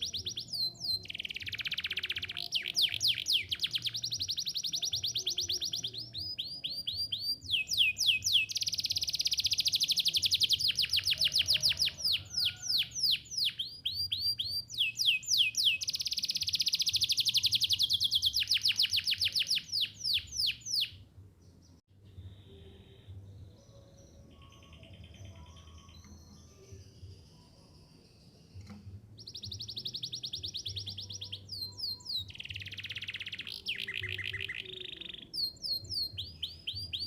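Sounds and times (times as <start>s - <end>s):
canary singing trills: 0.0s - 21.7s, 22.5s - 37.0s.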